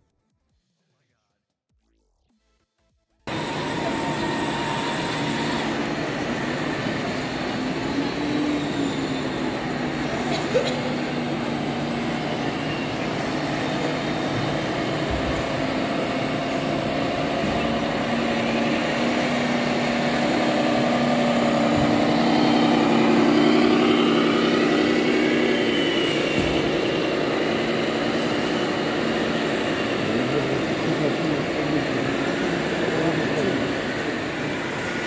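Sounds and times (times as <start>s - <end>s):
model truck engine whining: 3.3s - 35.0s.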